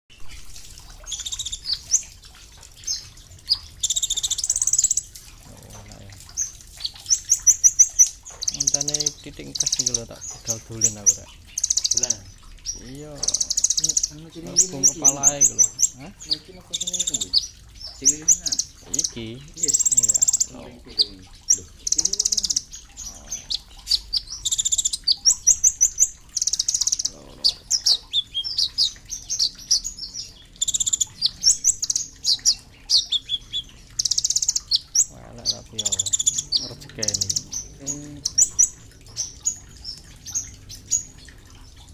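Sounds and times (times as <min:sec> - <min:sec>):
sunbird chirping trills: 0:00.1 - 0:41.9.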